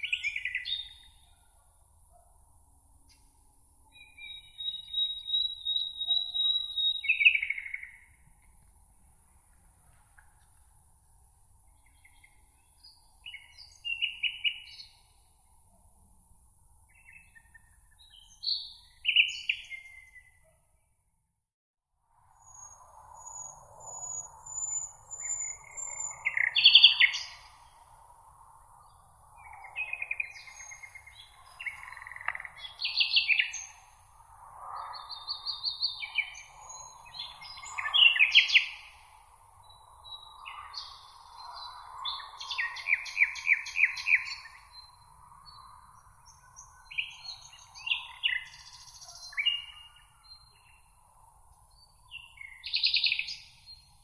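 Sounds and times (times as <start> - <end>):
songbirds singing: 0.0 - 2.3, 3.0 - 8.6, 11.6 - 15.4, 16.8 - 20.9, 22.4 - 54.0.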